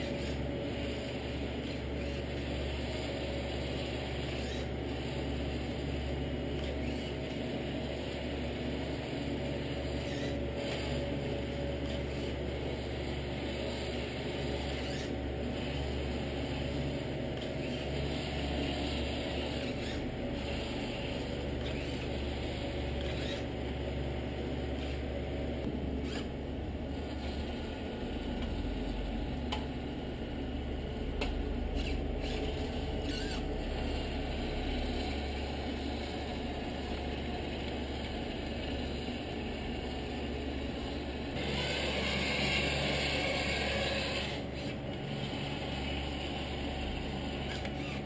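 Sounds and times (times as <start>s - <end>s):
electric motor and gears whirring: 0.0s - 48.0s.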